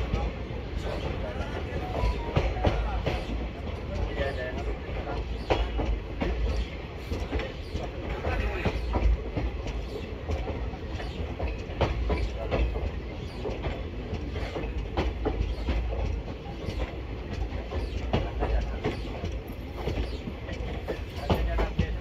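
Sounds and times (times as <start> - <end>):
train rumbling on track: 0.0 - 22.0
wheels clacking over rail joints: 0.0 - 22.0.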